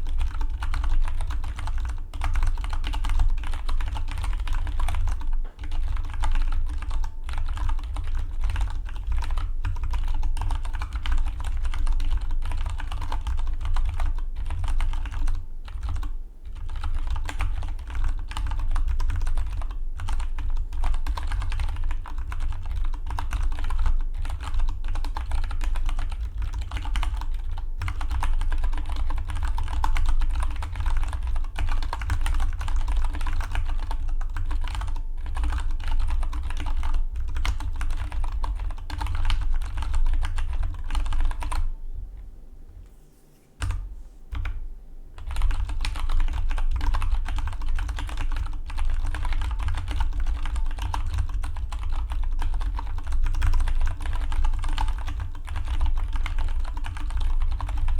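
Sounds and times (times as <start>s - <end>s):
typing on mechanical keyboard: 0.0s - 41.7s, 45.2s - 57.9s.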